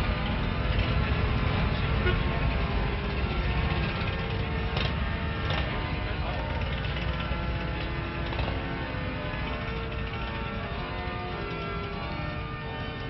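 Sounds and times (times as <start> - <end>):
church music chords: 0.0 - 13.0.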